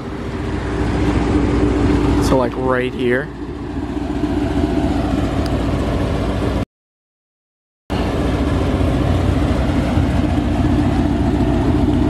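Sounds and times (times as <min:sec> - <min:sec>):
car engine idling: 0:00.0 - 0:06.6, 0:07.9 - 0:12.0.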